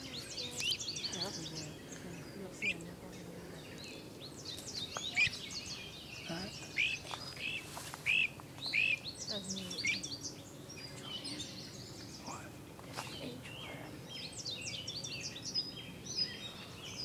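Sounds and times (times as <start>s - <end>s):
songbirds calling and singing: 0.0s - 17.0s.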